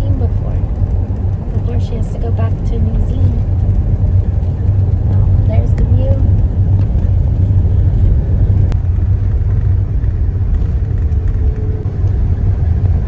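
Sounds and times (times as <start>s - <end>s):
car driving heard from cabin: 0.0s - 13.0s.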